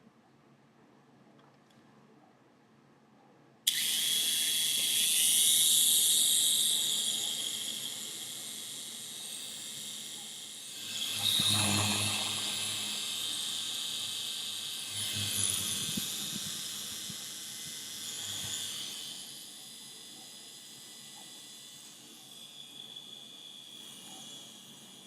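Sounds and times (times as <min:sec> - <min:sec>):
toy helicopter rotor whirring: 0:03.6 - 0:25.0.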